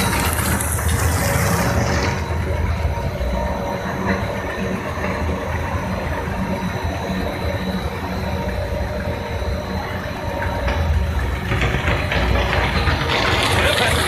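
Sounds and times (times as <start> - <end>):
faint machine whines: 0.0 - 14.0
machine drone and rumble: 0.0 - 14.0.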